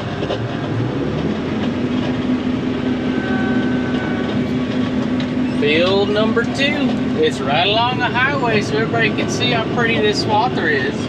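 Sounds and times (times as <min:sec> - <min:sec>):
swather engine humming: 0:00.0 - 0:11.0
faint whine: 0:02.0 - 0:11.0.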